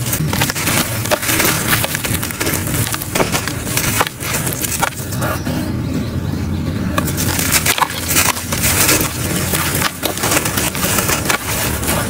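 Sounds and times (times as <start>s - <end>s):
charcoal crunching in hands: 0.0s - 5.2s, 7.0s - 12.0s.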